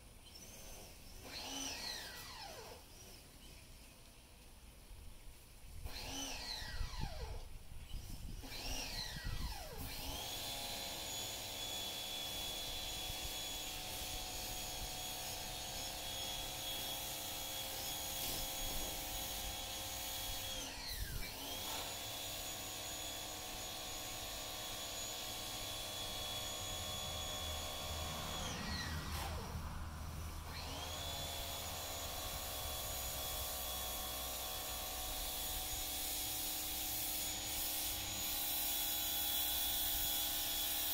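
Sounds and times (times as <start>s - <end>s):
small motor running: 0.2s - 3.7s, 5.8s - 40.9s.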